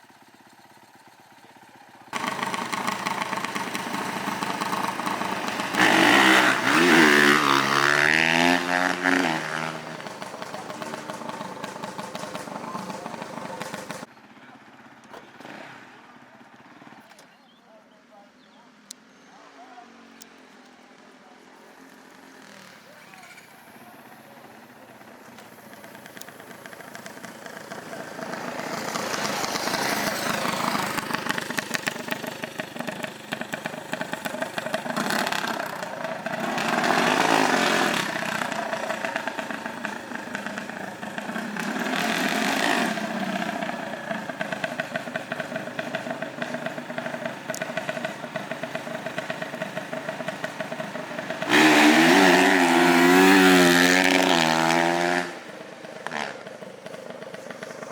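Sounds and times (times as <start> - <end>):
off-road vehicle engines revving: 2.1 - 14.1, 21.7 - 57.9.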